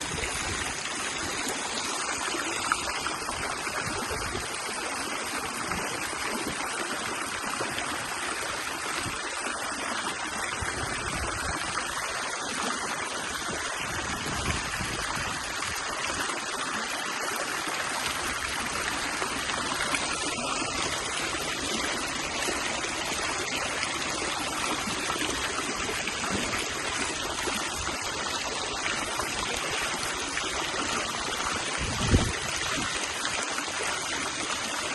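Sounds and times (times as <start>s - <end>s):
fountain water splashing: 0.0s - 34.9s.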